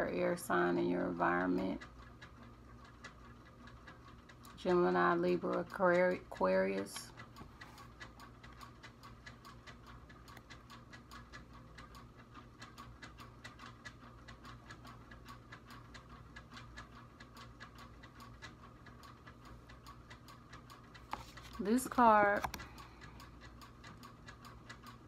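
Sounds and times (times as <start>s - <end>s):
clock ticking: 0.0s - 25.0s.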